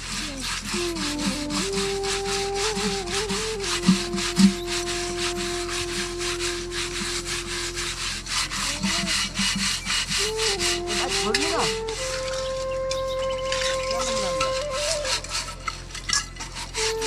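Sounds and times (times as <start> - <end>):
held stepping melody: 0.0 - 17.0
rhythmic rasping strokes: 0.0 - 17.0.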